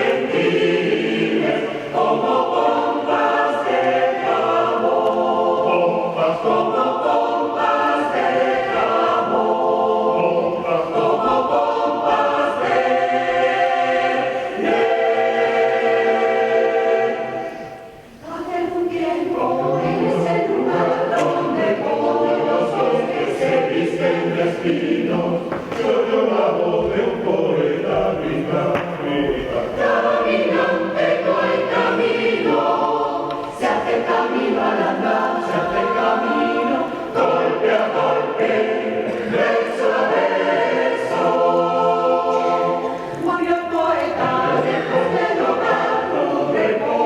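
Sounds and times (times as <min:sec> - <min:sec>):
choir singing in harmony: 0:00.0 - 0:47.0.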